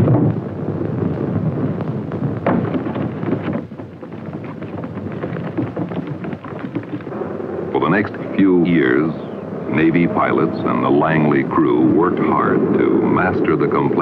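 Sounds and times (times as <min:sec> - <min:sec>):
crackling: 0:00.0 - 0:14.0
low rumble: 0:00.0 - 0:14.0.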